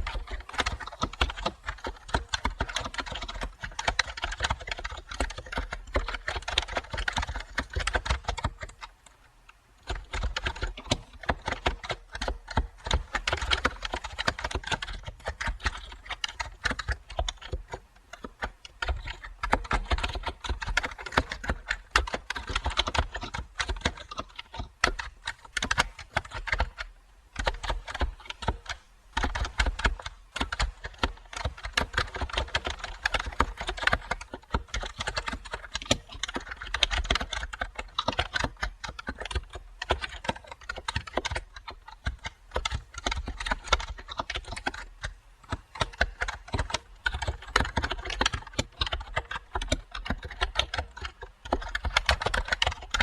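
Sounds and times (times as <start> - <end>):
typing on computer keyboard: 0.0 - 53.0.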